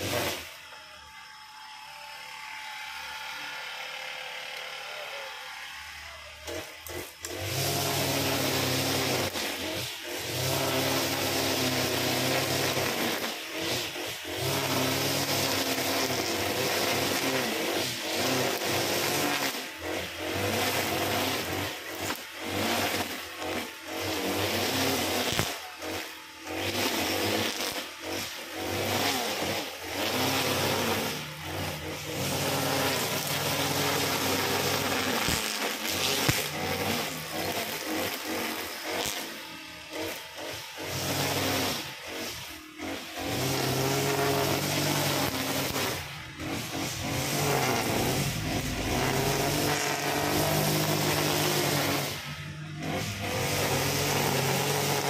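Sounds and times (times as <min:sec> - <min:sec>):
brush cutter engine at high revs: 0:00.0 - 0:55.0.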